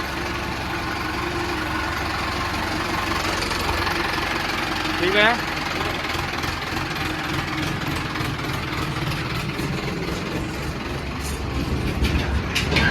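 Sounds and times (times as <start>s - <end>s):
tractor diesel engine idling: 0.0s - 12.9s.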